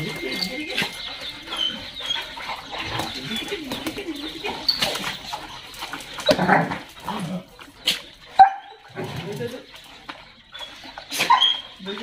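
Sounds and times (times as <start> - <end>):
dogs whining and whimpering: 0.0 - 12.0.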